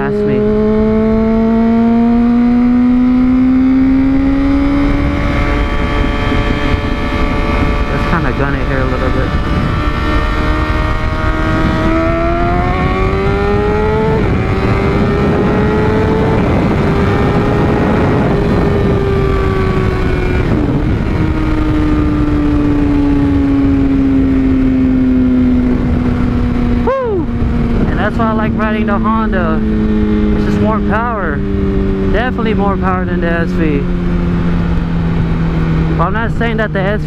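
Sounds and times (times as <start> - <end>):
motorcycle engine accelerating: 0.0 - 37.0
wind rush: 0.0 - 37.0.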